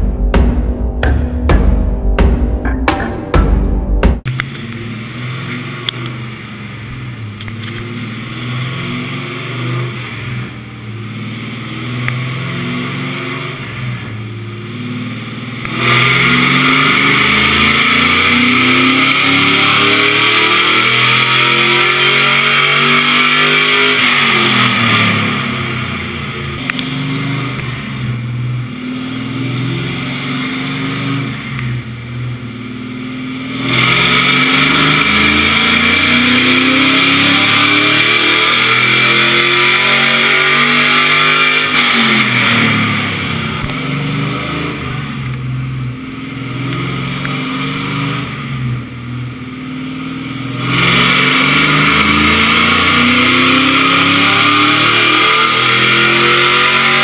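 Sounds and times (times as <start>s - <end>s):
car engine revving on dyno: 4.2s - 57.0s.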